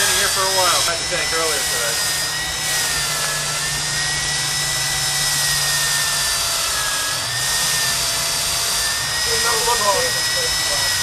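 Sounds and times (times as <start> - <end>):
core drill cutting concrete: 0.0 - 11.0.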